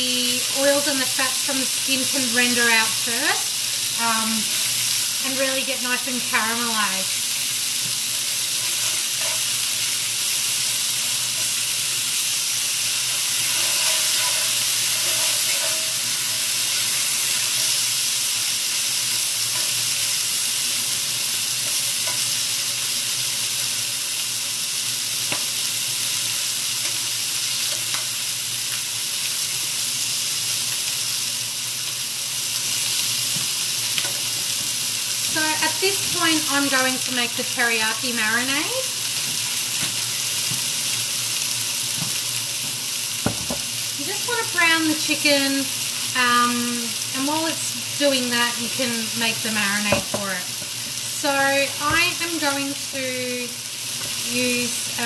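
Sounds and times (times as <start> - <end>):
chicken sizzling in a pan: 0.0 - 55.0.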